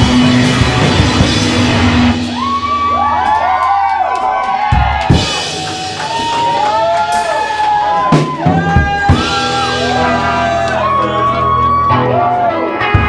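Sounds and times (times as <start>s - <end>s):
live band playing loudly: 0.0s - 13.0s.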